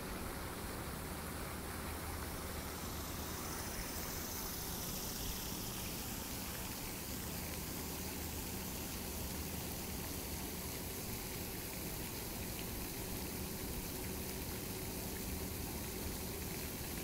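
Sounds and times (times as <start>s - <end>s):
faint steady hum: 0.0s - 17.0s
fountain water splashing: 0.0s - 17.0s.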